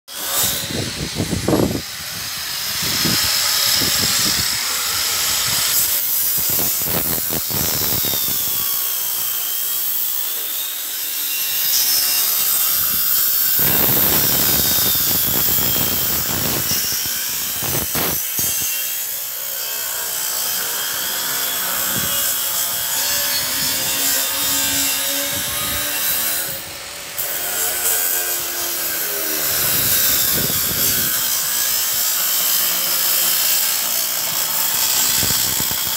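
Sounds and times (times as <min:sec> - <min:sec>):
angle grinder cutting steel: 0:00.1 - 0:35.9.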